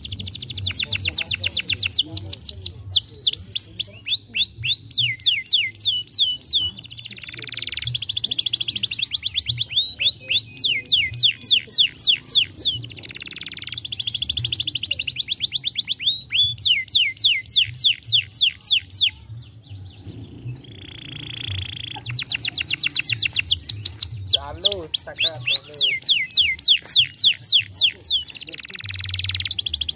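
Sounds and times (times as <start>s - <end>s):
canary singing trills and whistles: 0.0s - 29.9s.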